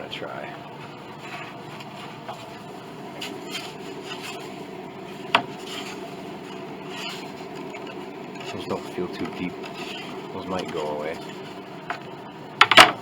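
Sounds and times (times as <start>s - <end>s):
hands rubbing wood: 0.8s - 12.1s.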